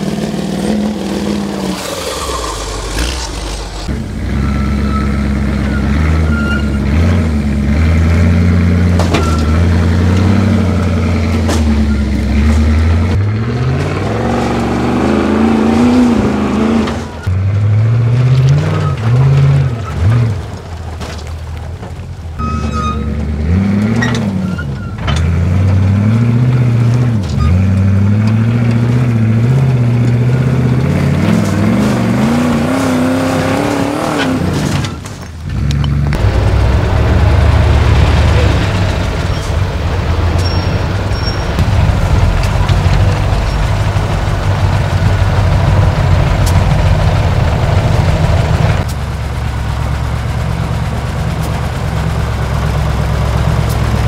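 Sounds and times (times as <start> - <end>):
off-road truck engine revving: 0.0 - 54.0.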